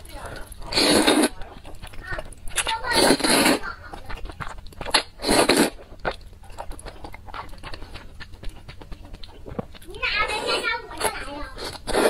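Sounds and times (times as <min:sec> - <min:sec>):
noodles slurped: 0:00.0 - 0:12.0
wet chewing: 0:00.0 - 0:12.0.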